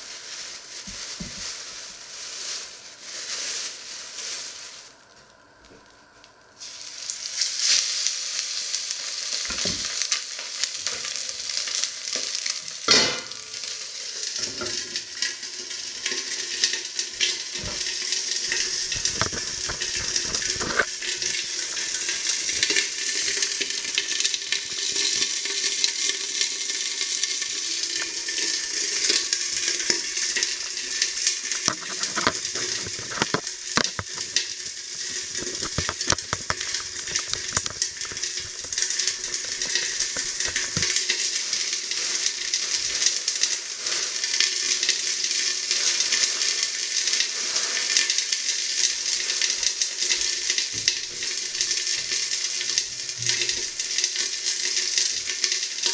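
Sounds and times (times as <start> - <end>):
chicken frying in a pan: 0.0 - 55.9.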